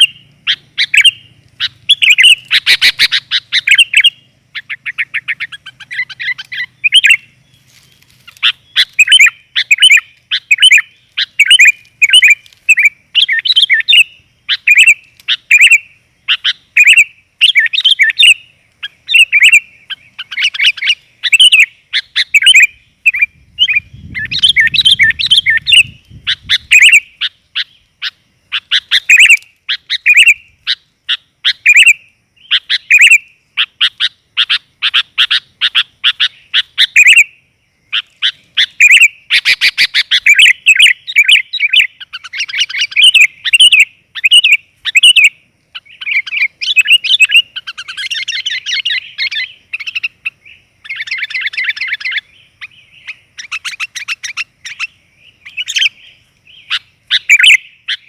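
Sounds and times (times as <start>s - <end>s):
bird chattering chirps: 0.0s - 58.0s.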